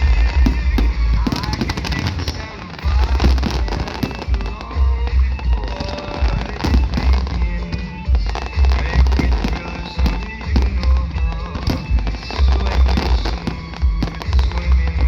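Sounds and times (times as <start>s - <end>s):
fireworks bursting and crackling: 0.0s - 15.0s
loud music with heavy bass: 0.0s - 15.0s.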